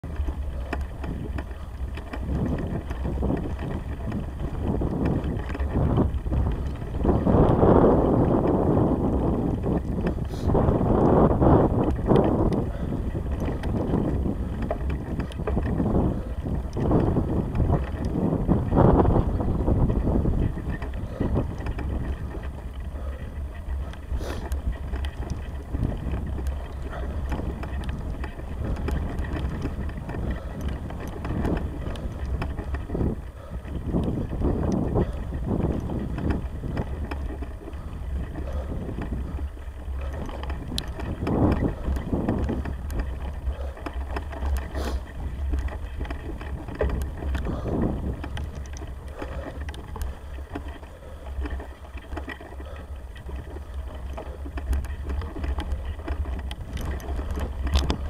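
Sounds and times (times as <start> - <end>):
bicycle rolling on bumpy grass: 0.0 - 58.0
bike clicks and rattles: 0.0 - 58.0
wind buffeting microphone: 0.0 - 58.0.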